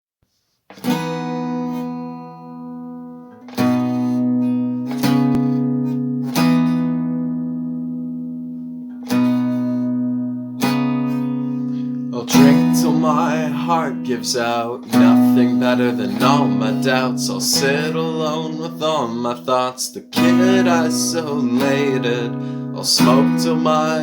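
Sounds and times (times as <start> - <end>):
acoustic guitar chords strummed: 0.7 - 24.0.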